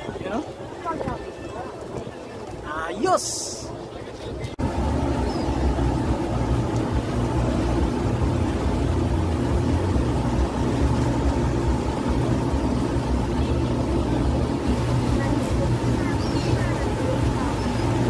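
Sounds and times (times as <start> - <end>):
continuous rushing noise: 0.0 - 18.0
ferry engine drone: 3.3 - 18.0.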